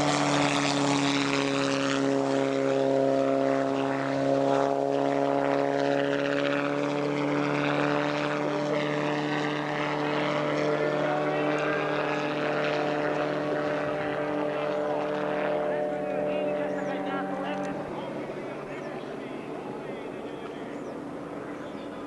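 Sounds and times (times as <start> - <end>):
helicopter engine and rotor hum: 0.0 - 22.0.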